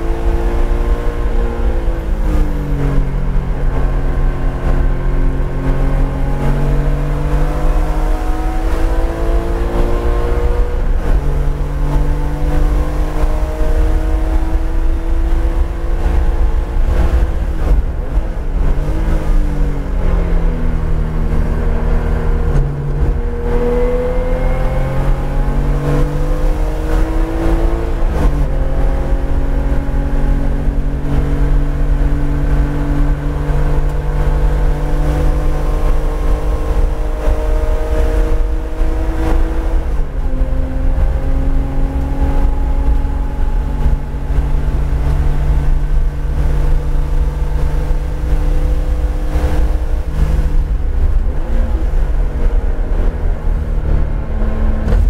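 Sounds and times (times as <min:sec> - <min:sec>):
car engine accelerating hard: 0:00.0 - 0:55.0.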